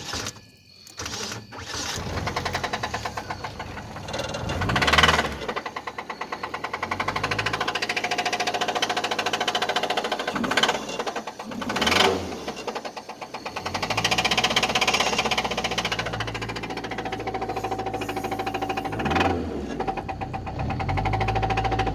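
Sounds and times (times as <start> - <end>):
car engine knocking and revving: 1.8 - 21.9.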